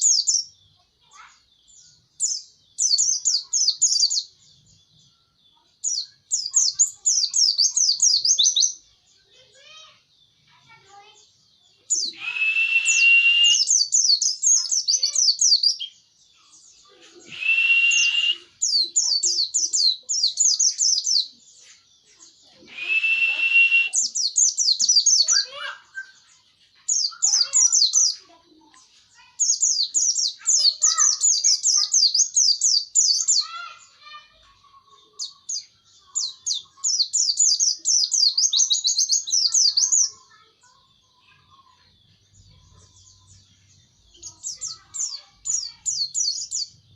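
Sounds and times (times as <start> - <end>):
bird singing rapid chattering phrases: 0.0 - 46.9.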